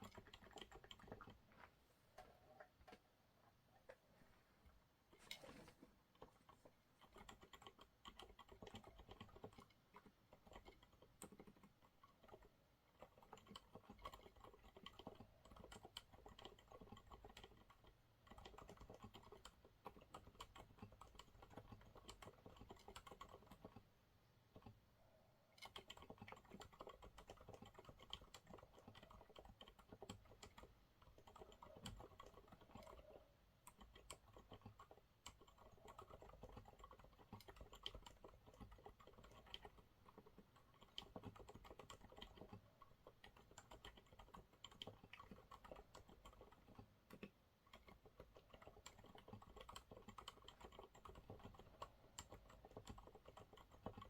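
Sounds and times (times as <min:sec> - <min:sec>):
muted mechanical keyboard typing: 0:00.0 - 0:01.4, 0:06.1 - 0:24.8, 0:25.5 - 0:54.0.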